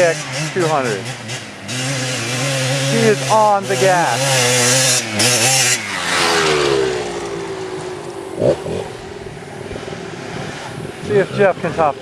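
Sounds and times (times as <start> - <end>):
dirt bike engine at full throttle: 0.0 - 12.0.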